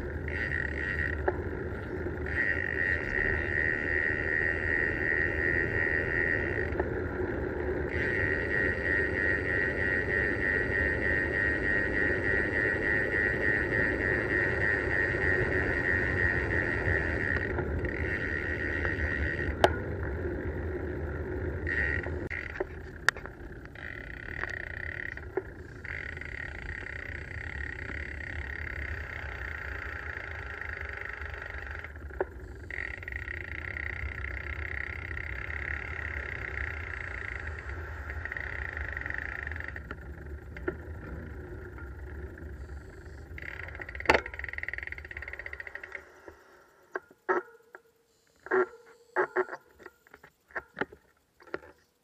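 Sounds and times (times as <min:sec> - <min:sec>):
bicycle freewheel ticking: 0:00.0 - 0:47.3.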